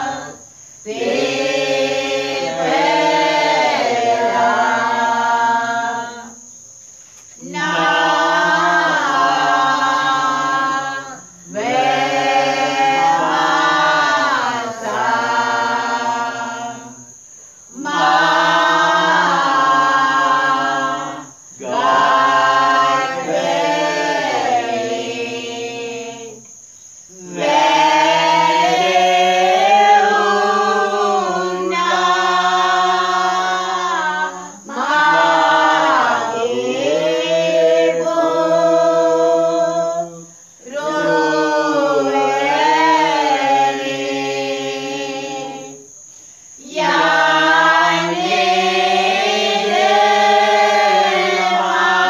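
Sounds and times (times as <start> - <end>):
group singing a hymn: 0.0 - 52.0.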